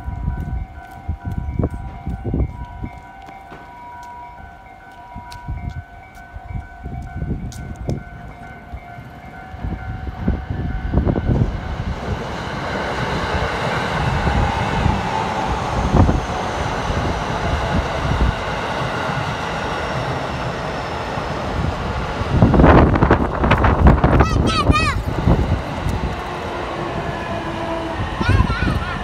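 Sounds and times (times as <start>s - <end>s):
electric train passing: 0.0s - 29.0s.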